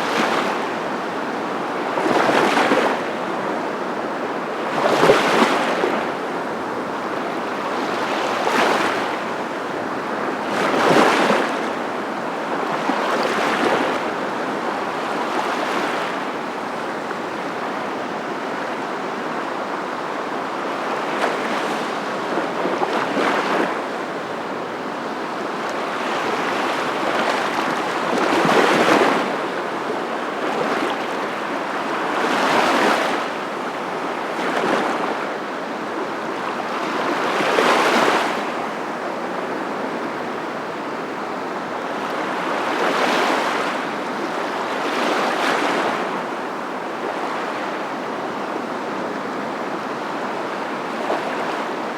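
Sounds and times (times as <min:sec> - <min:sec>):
ocean waves breaking: 0:00.0 - 0:18.7, 0:20.8 - 0:51.9.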